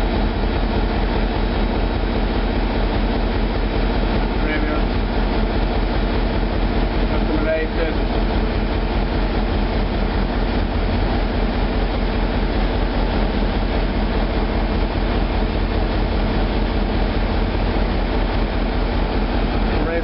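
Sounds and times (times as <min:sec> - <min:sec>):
marine diesel engine running: 0:00.0 - 0:20.0.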